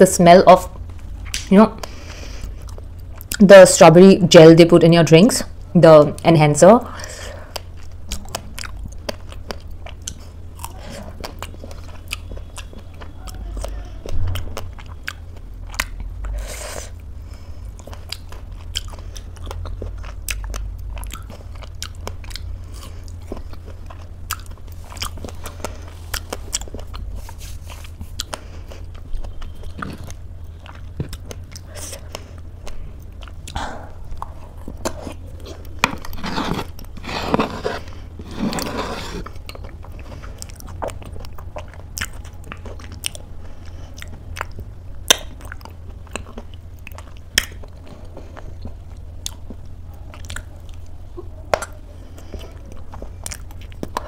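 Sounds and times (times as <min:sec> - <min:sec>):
person chewing food: 0:00.8 - 0:03.4, 0:07.0 - 0:54.0.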